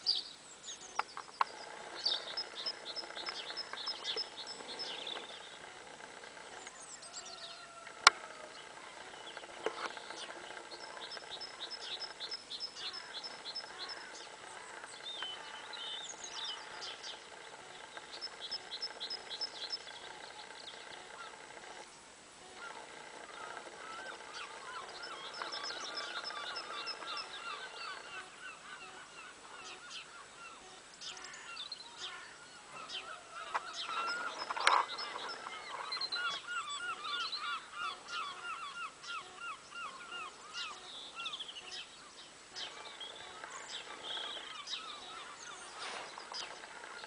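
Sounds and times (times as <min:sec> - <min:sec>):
birds calling: 0:00.0 - 0:47.0.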